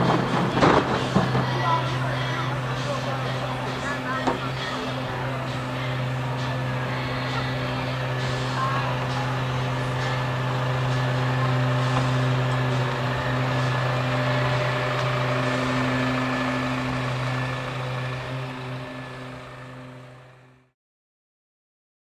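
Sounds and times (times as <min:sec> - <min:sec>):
street noise: 0:00.0 - 0:20.6
vehicle engine idling: 0:00.0 - 0:20.7.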